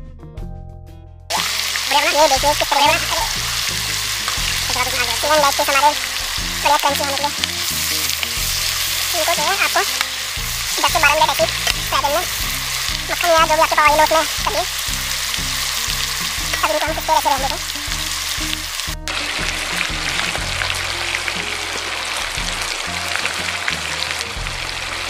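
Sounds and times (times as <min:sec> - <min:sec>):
background music: 0:00.0 - 0:25.0
chicken sizzling in butter: 0:01.3 - 0:25.0.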